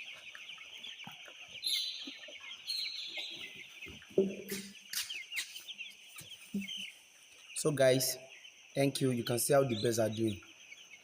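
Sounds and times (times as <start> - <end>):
chicken clucking: 0.0 - 11.0
chickens peeping: 0.0 - 11.0.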